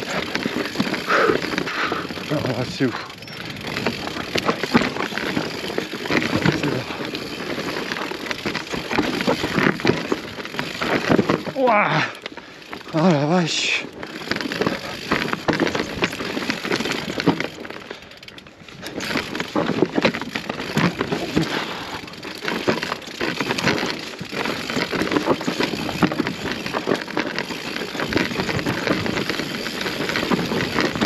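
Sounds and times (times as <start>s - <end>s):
bike tyres crunching over stones: 0.0s - 31.0s.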